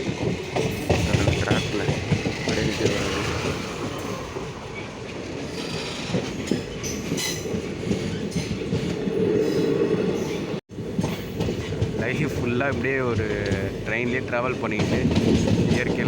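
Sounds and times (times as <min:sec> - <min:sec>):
train rumbling on track: 0:00.0 - 0:16.0
wheels clattering over rail joints: 0:00.0 - 0:16.0.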